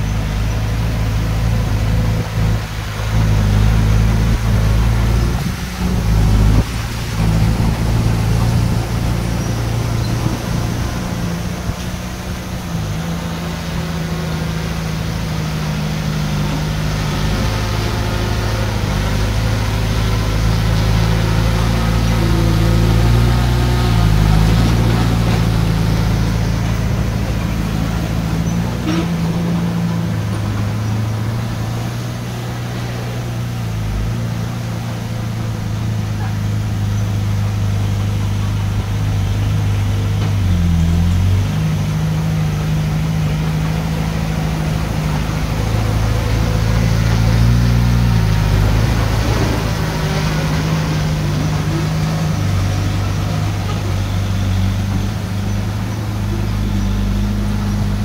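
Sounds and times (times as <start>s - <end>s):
heavy machinery diesel engine: 0.0s - 58.0s.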